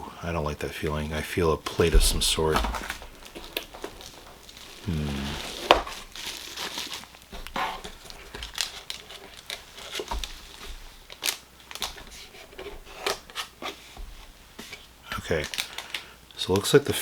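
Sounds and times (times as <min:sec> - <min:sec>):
packing material crinkling: 0:01.6 - 0:13.8, 0:14.8 - 0:17.0.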